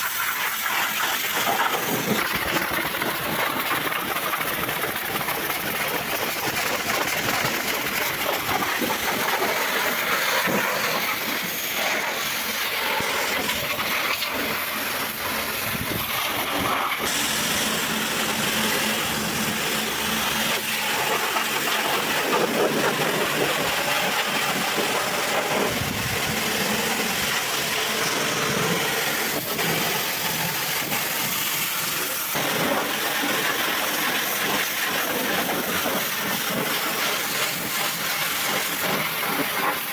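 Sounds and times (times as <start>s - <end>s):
high-pressure water spray hissing: 0.0s - 39.9s.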